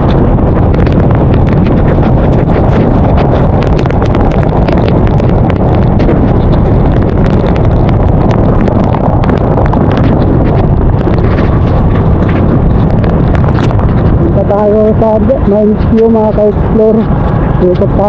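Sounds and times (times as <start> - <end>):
rain ticking on camera: 0.0 - 17.6
road noise: 0.0 - 18.0
wind rushing on microphone: 0.0 - 18.0.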